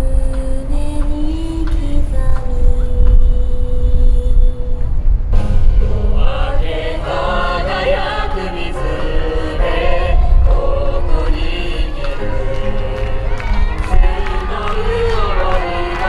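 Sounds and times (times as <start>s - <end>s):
choir-like singing: 0.0s - 16.0s.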